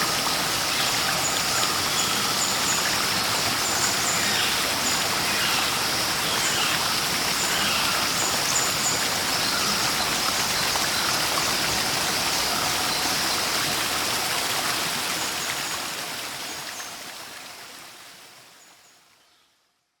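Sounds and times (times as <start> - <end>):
flowing water: 0.0 - 19.2.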